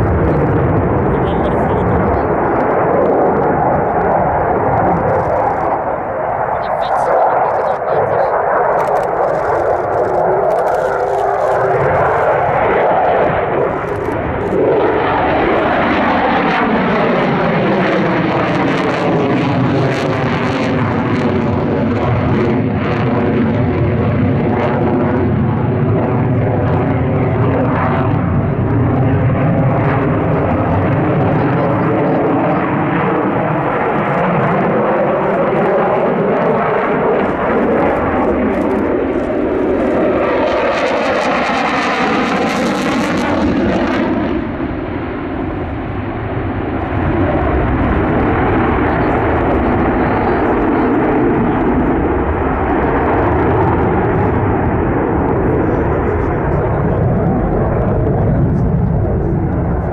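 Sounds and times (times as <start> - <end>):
jet engine roaring: 0.0 - 59.9.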